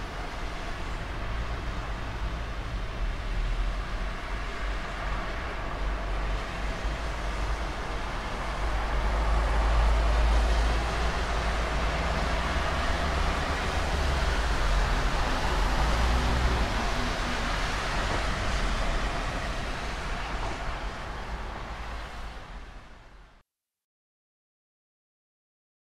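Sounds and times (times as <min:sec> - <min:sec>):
engine rumble of passing vehicles: 0:00.0 - 0:23.3
steady rain: 0:00.0 - 0:23.4
tyre hiss on wet road: 0:00.0 - 0:23.4.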